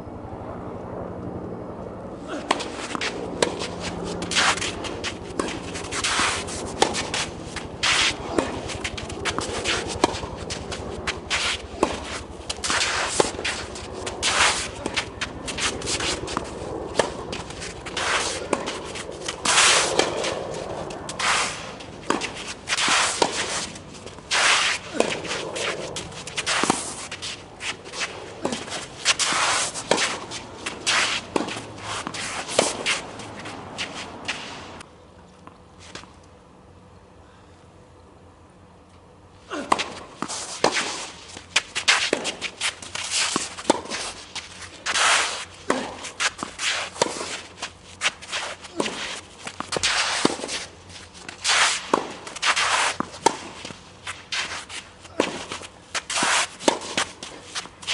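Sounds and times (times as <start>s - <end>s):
racket striking tennis ball: 2.2s - 34.8s, 39.5s - 57.9s
footsteps and shoe scuffs on court: 2.3s - 36.2s, 39.6s - 57.9s
tennis ball bouncing: 2.4s - 34.8s, 39.6s - 57.9s.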